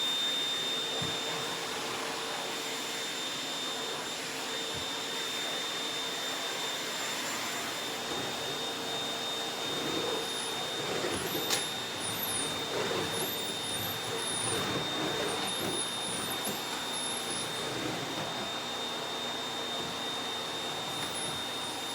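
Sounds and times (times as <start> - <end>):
vacuum cleaner whining: 0.0 - 21.9.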